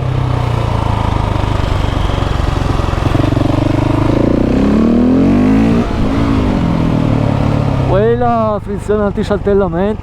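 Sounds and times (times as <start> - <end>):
motorcycle engine accelerating: 0.0 - 9.4.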